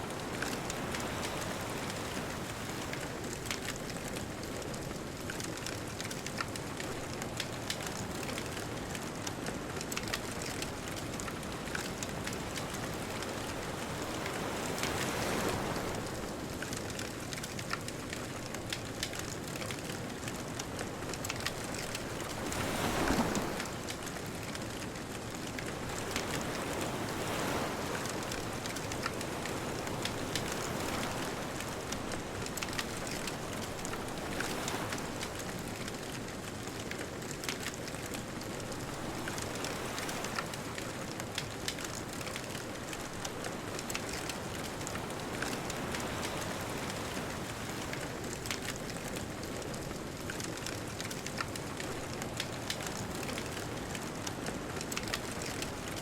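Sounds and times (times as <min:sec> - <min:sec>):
ocean waves washing ashore: 0:00.0 - 0:56.0
bonfire crackling and popping: 0:00.1 - 0:56.0.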